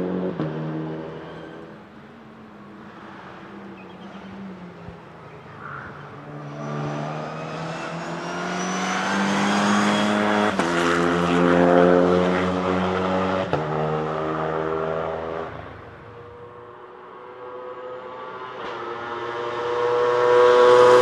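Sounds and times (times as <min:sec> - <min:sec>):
race car engine passing at full throttle: 0:00.0 - 0:21.0.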